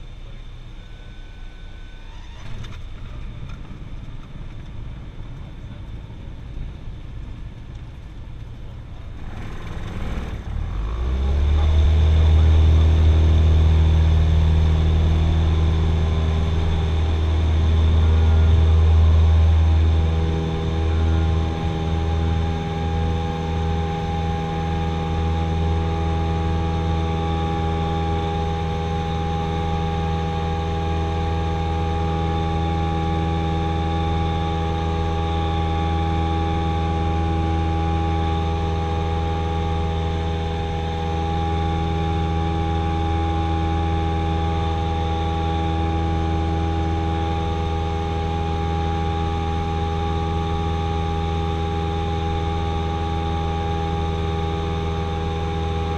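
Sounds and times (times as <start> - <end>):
airplane engine droning: 0.0 - 55.9
low runway rumble: 0.0 - 55.9.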